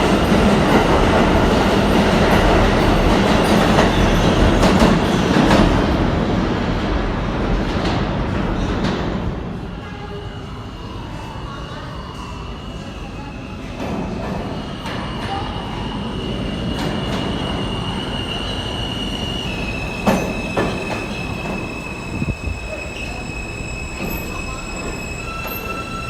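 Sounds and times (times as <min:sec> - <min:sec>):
train wheels squealing on rails: 0:00.0 - 0:05.8, 0:09.6 - 0:26.0
rumble of moving train: 0:00.0 - 0:26.0.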